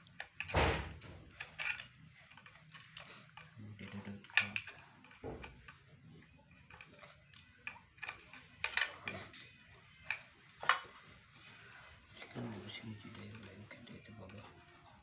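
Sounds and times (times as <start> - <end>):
hand tools clicking and tapping: 0.0 - 11.1, 13.0 - 15.0.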